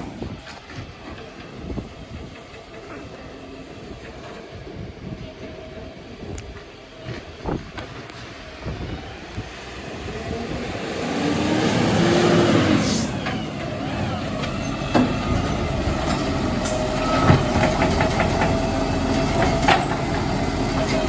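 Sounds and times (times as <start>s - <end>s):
garbage truck engine running: 0.0s - 21.0s.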